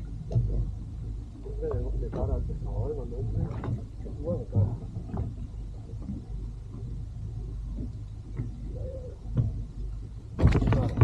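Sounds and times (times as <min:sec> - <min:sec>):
wind and sea rumble: 0:00.0 - 0:11.0.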